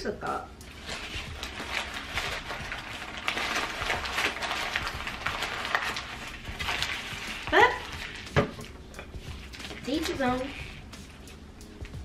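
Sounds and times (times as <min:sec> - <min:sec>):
paper wrapper crinkling: 0:00.7 - 0:11.2.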